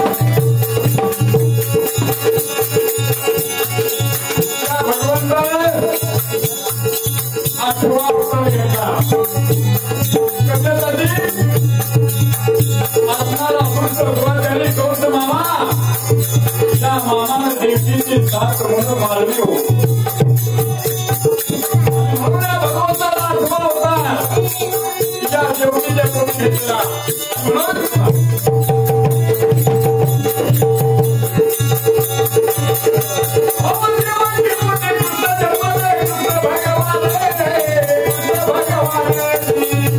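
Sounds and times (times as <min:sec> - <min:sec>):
shaken rattle and jingle rhythm: 0:00.0 - 0:39.9
man singing: 0:04.3 - 0:20.2, 0:21.2 - 0:30.6, 0:32.5 - 0:39.9.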